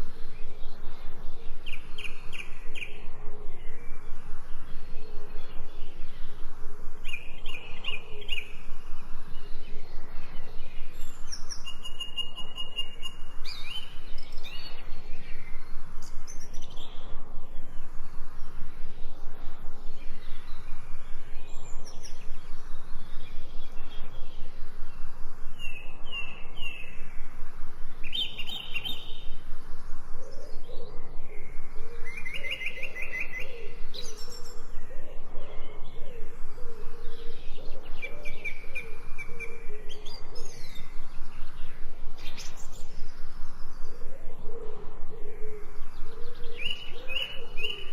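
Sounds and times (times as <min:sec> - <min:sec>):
bird cooing: 0:00.0 - 0:47.9
birds chirping: 0:00.0 - 0:47.9
steady pulsing background: 0:00.0 - 0:47.9.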